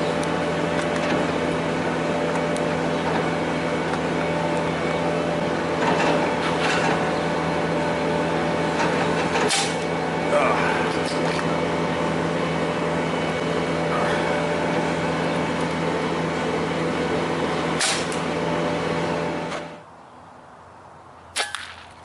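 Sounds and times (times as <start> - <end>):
motor humming: 0.0 - 19.8.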